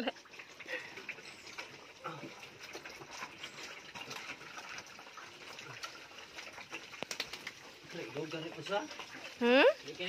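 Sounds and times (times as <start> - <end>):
piglets slurping and smacking: 0.2 - 10.0.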